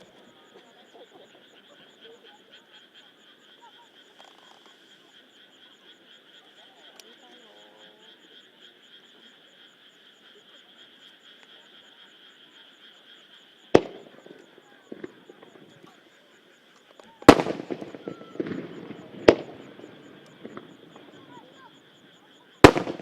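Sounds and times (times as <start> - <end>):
distant voices murmuring: 0.0 - 23.0
frogs trilling: 0.0 - 23.0.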